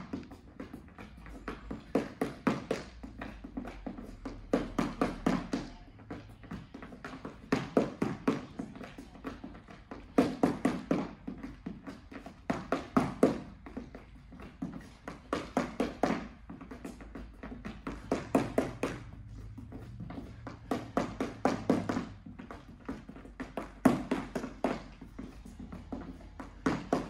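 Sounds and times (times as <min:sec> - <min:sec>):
footsteps tapping on tiled floor: 0:00.0 - 0:27.0.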